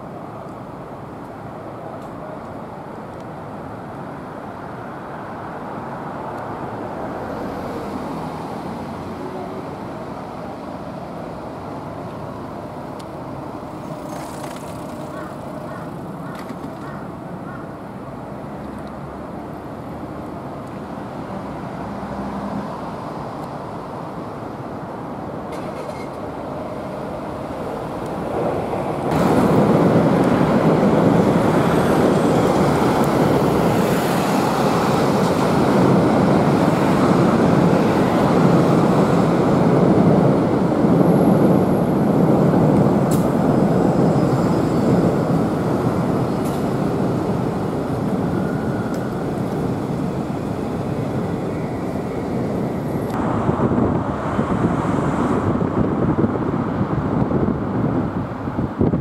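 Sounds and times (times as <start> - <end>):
rumble of passing traffic: 0.0 - 59.0.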